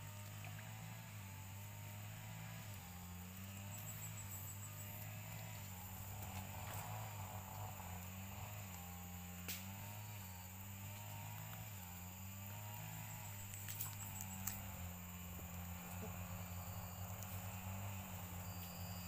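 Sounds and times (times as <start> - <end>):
high insect buzz: 0.0 - 19.0
low hum: 0.0 - 19.0.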